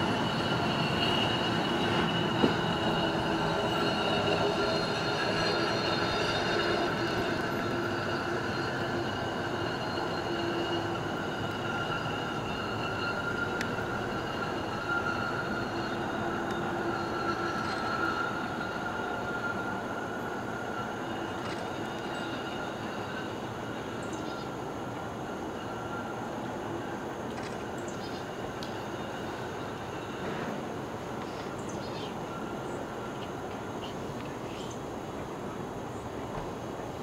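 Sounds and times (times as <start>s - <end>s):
steel wheels squealing on track: 0.0s - 37.0s.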